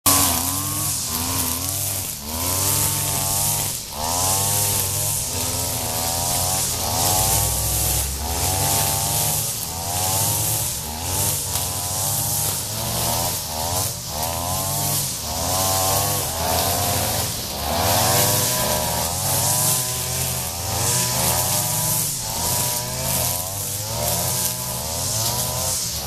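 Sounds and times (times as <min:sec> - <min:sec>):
spinning trimmer line hissing: 0:00.0 - 0:26.0
string trimmer engines revving: 0:00.0 - 0:26.0.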